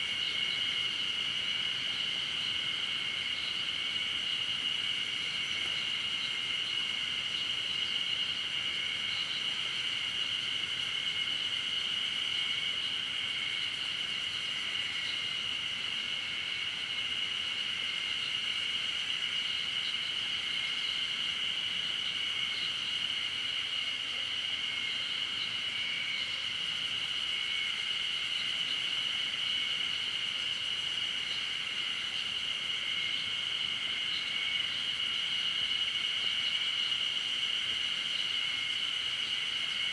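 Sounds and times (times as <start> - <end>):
faint flickering insect chirps: 0.0 - 39.9
forest ambience hiss: 0.0 - 39.9
insects droning high-pitched: 0.0 - 39.9.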